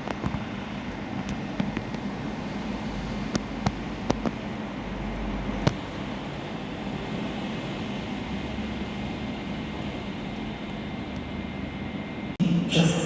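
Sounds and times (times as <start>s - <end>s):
station platform rumble and hiss: 0.0s - 13.0s.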